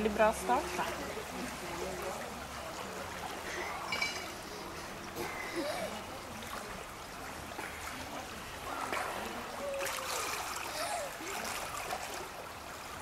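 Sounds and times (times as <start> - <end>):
faint distant voices: 0.0 - 13.0
trickling water: 0.0 - 13.0.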